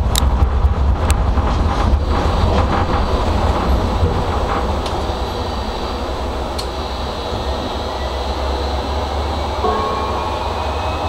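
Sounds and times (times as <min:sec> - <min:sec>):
faint whine: 0:00.0 - 0:11.0
tram wheels rumbling on rail: 0:00.0 - 0:11.0.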